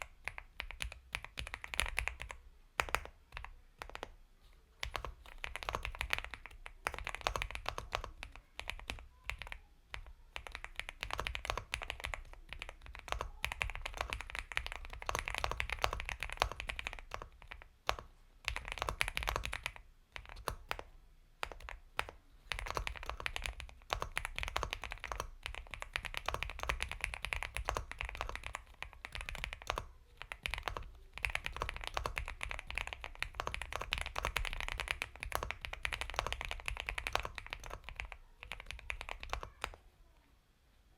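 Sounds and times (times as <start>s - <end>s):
mechanical keyboard typing: 0.0s - 4.2s, 4.8s - 39.8s.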